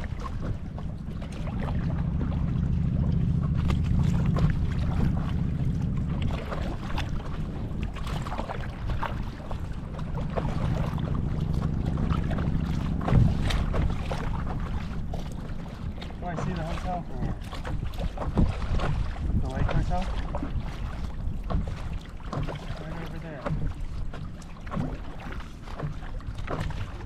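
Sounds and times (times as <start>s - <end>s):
choppy water splashing: 0.0s - 27.0s
wind rumbling on microphone: 0.0s - 27.0s.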